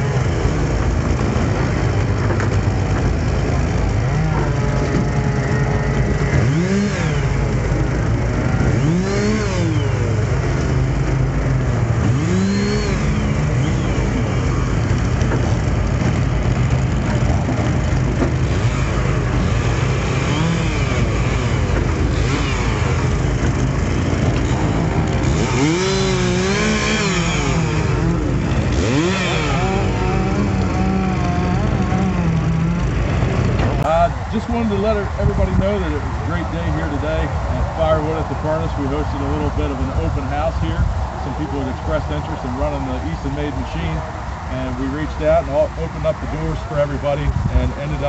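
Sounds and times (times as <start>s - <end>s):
engine revving: 0.0s - 48.0s
small gasoline engines running: 0.0s - 48.0s.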